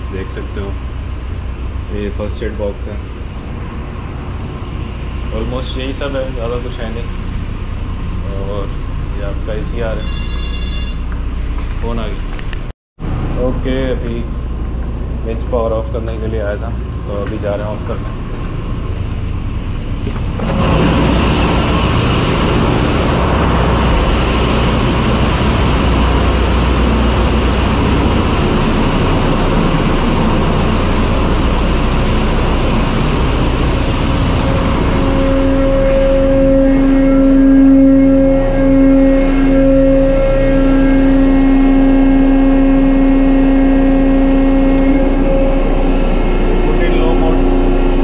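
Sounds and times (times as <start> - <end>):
engine room machinery din: 0.0 - 48.0
strong low hum: 0.0 - 48.0.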